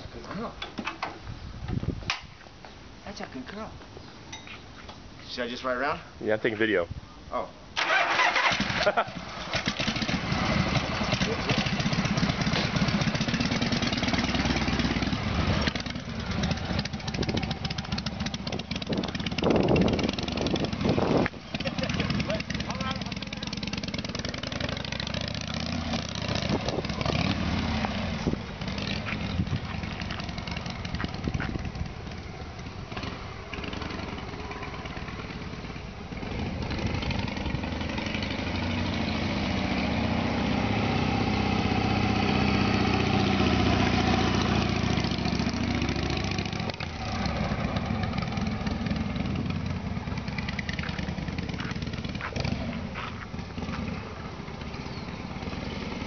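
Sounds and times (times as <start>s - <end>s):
motorcycle engine riding off: 7.8s - 56.0s.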